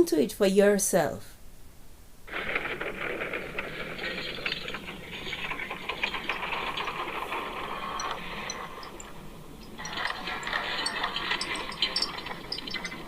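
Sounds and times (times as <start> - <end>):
steady noise: 1.9 - 13.0
dense crackle of small clicks: 2.3 - 13.0.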